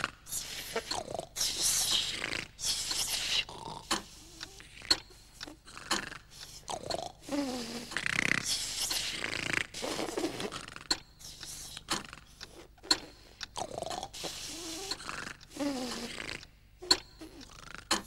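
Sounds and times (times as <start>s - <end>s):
cartoon creature snoring: 0.0s - 4.9s, 5.6s - 11.0s, 13.6s - 18.0s.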